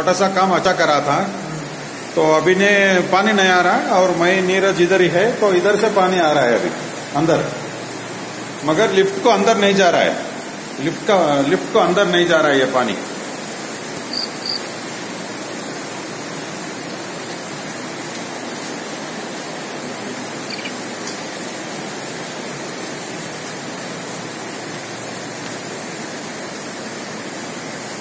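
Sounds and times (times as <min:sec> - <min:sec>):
heavy rain rushing: 0:00.0 - 0:28.0.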